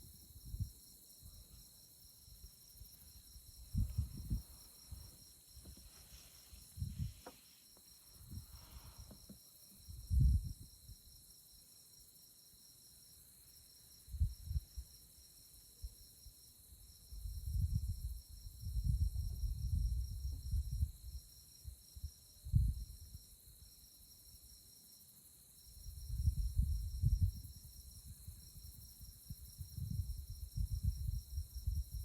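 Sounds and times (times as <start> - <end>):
crickets and insects trilling: 0.0 - 32.0.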